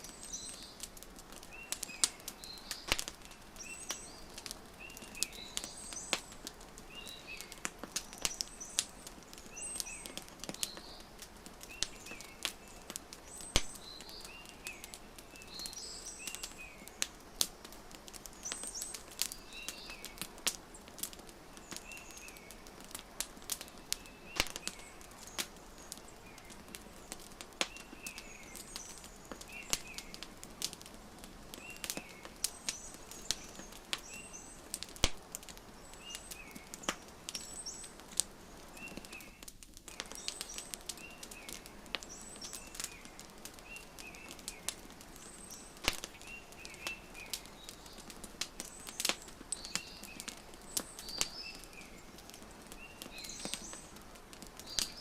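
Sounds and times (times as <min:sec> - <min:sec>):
small birds chirping: 0:00.0 - 0:55.0
wood fire crackling: 0:00.0 - 0:55.0.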